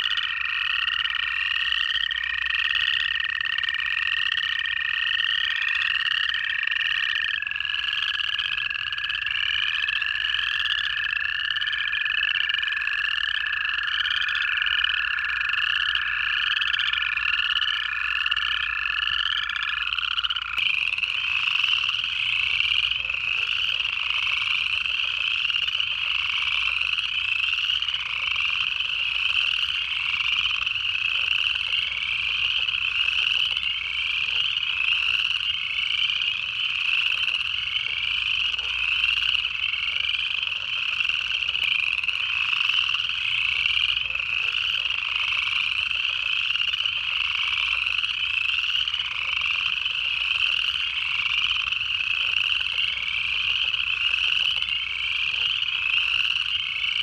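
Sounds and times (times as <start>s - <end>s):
frogs giving rising trills: 0.0s - 57.0s
toads giving low trills: 0.0s - 57.0s.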